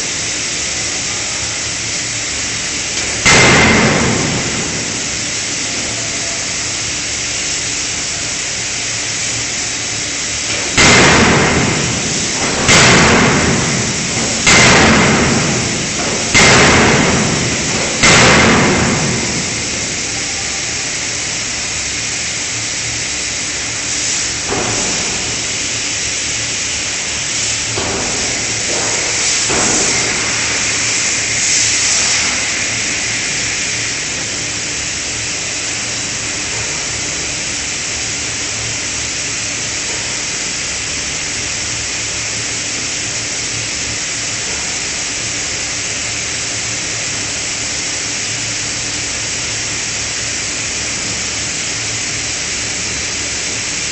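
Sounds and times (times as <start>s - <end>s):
low machine hum: 0.0s - 53.9s
steady hissing: 0.0s - 53.9s.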